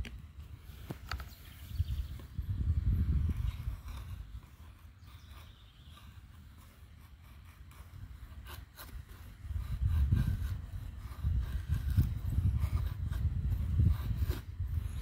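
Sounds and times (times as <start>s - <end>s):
knife scraping wooden stick: 0.8s - 15.0s.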